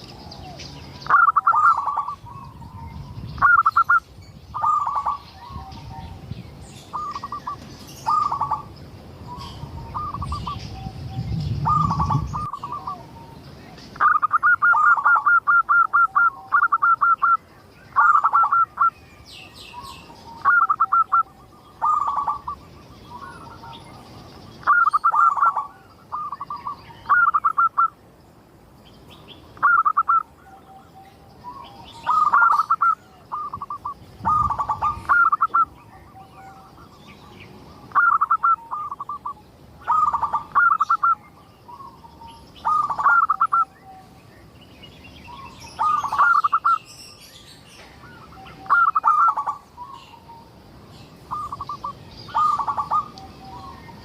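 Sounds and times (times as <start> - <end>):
dove cooing: 0.0 - 4.0, 4.6 - 6.2, 6.9 - 8.7, 9.3 - 13.4, 14.0 - 18.9, 19.7 - 24.0, 24.6 - 27.9, 29.6 - 36.9, 37.8 - 42.0, 42.6 - 44.1, 45.4 - 46.8, 48.0 - 50.2, 51.3 - 54.0
high bird chirps: 0.0 - 13.0, 13.8 - 28.0, 29.2 - 54.0.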